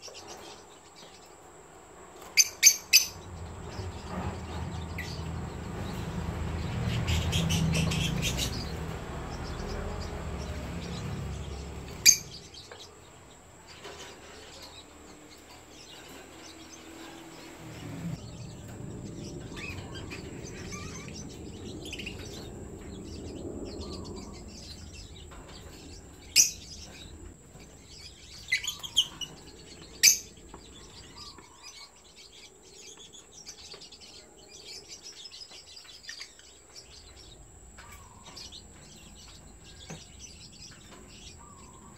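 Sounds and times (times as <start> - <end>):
birds chirping sharply: 0.0 - 41.9.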